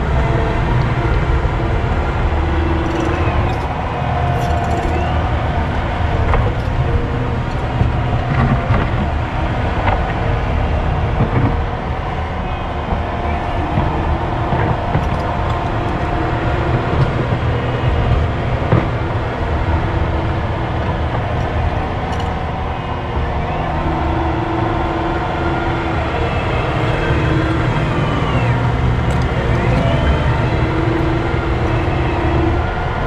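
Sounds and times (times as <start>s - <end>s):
diesel engine running: 0.0s - 33.0s
hydraulic whine: 0.0s - 33.0s.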